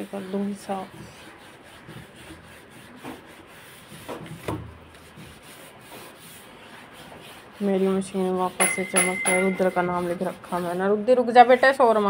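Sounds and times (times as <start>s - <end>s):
scouring pad scrubbing wood: 0.0s - 12.0s.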